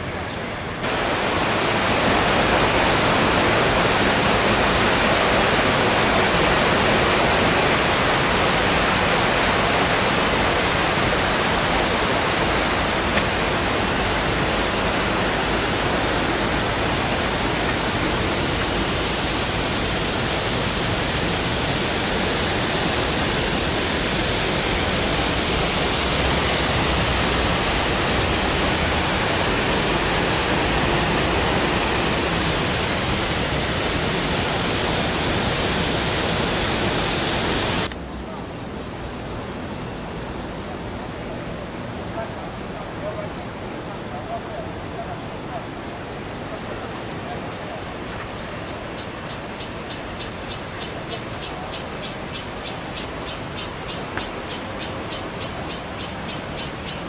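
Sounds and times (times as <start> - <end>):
water rushing: 0.0 - 38.6, 41.9 - 57.0.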